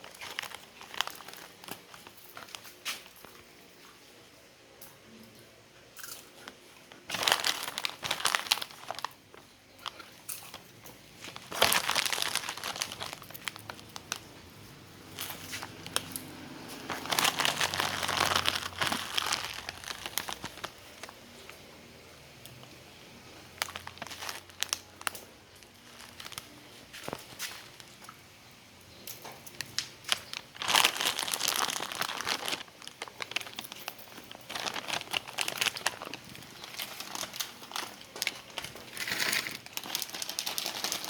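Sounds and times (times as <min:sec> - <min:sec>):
plastic wrapper crinkling: 0:00.0 - 0:03.4, 0:06.9 - 0:21.7, 0:22.4 - 0:28.2, 0:28.9 - 0:41.0.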